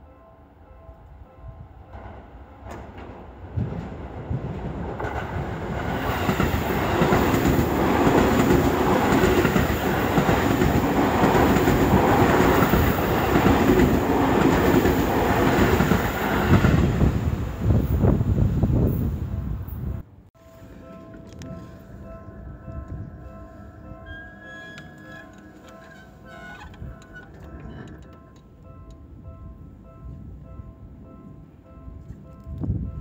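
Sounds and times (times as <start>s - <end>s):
train rumble: 1.5s - 33.0s.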